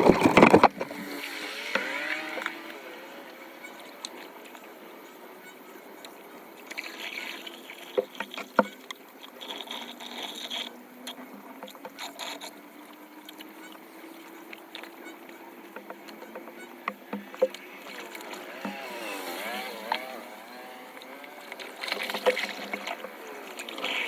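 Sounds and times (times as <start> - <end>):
floodwater splashing and trickling: 0.0 - 24.0.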